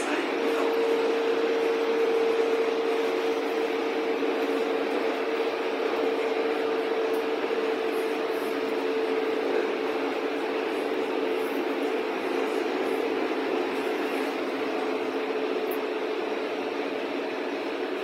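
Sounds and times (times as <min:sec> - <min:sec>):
steady humming tone: 0:00.0 - 0:18.0
train wheels rumbling on rails: 0:00.0 - 0:18.0.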